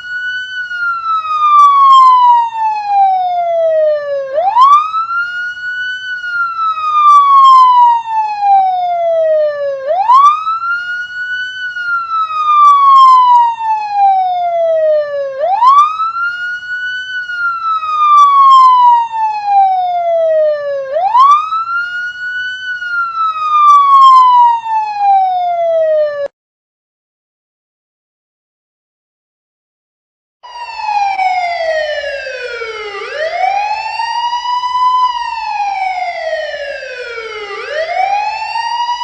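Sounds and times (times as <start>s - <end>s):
police siren wailing: 0.0s - 26.3s, 30.4s - 39.0s.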